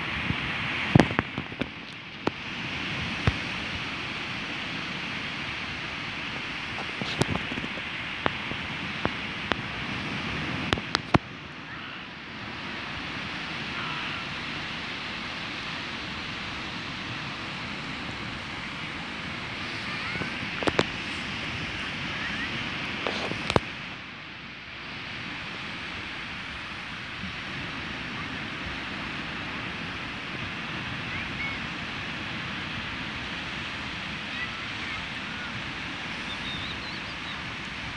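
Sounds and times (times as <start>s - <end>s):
waves washing up a beach: 0.0s - 37.9s
wind on the microphone: 0.0s - 37.9s.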